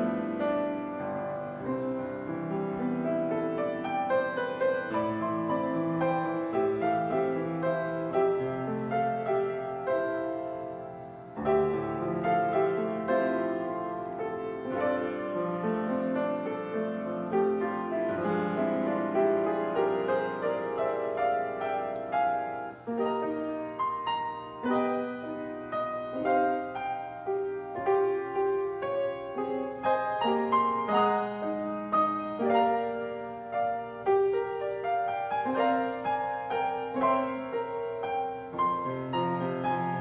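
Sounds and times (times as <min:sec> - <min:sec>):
piano playing chords and melody: 0:00.0 - 0:40.0.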